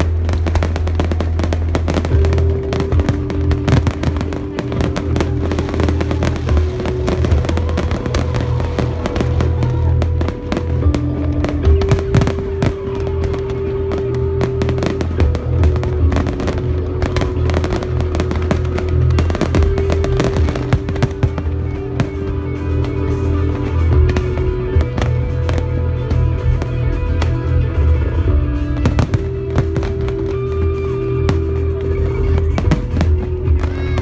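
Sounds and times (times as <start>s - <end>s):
continuous low rumble: 0.0s - 34.0s
firework shells bursting and crackling: 0.0s - 34.0s
music with long held notes: 0.0s - 34.0s.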